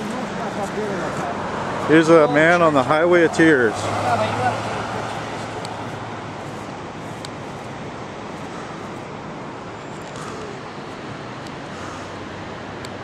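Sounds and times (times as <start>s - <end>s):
vehicle road noise: 0.0s - 13.0s.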